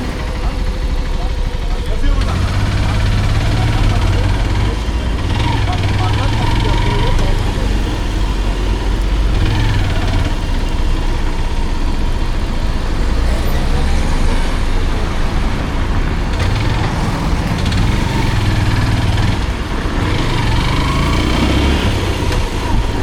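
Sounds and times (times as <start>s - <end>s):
motorcycle engine rumbling: 0.0s - 23.0s
surrounding traffic noise: 0.0s - 23.0s.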